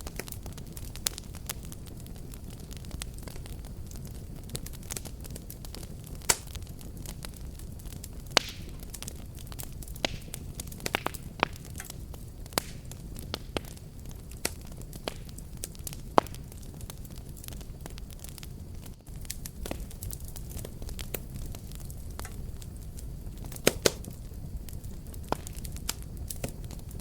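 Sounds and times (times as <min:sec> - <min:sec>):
fire crackling pops: 0:00.0 - 0:27.0
rumble of fireplace flames: 0:00.0 - 0:27.0.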